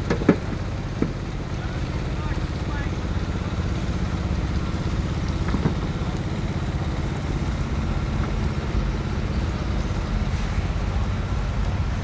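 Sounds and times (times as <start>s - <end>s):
engine idling: 0.0s - 12.0s
street noise hiss: 0.0s - 12.0s.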